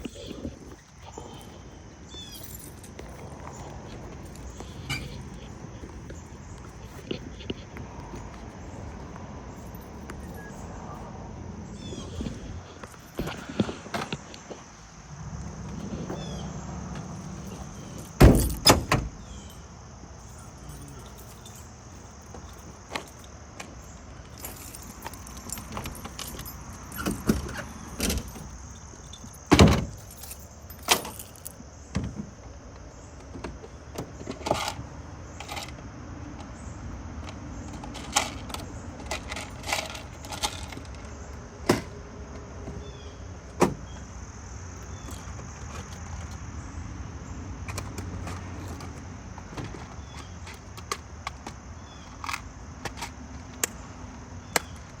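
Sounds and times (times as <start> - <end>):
handling clicks and knocks: 0.0 - 10.8, 11.7 - 19.6, 20.2 - 44.1, 44.8 - 46.5, 47.6 - 55.0.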